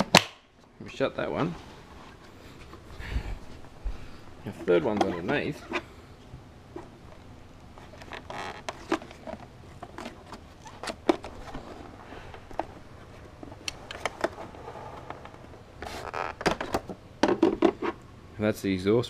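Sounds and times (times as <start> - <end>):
handling rustle: 1.5 - 18.0.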